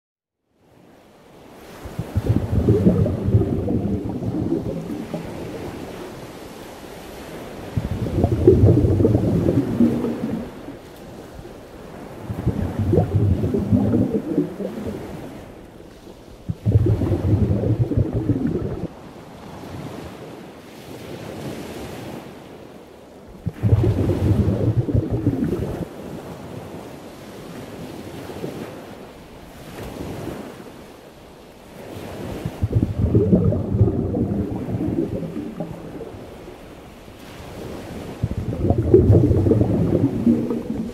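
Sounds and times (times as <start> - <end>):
ocean waves washing in: 0.8 - 22.4, 23.3 - 40.9.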